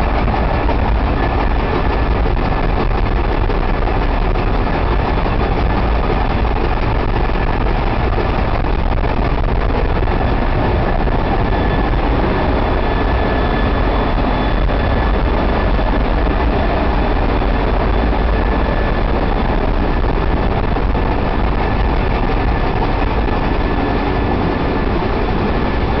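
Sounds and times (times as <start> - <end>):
engine room machinery din: 0.0 - 26.0
thin steady whine: 0.0 - 26.0.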